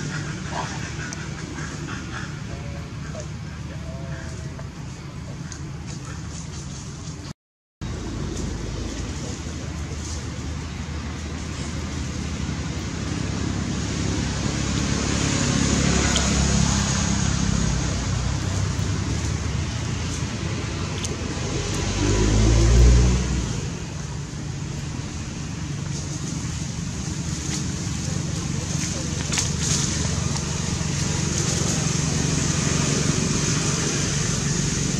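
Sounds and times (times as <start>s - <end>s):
vehicle engine humming: 0.0s - 34.9s.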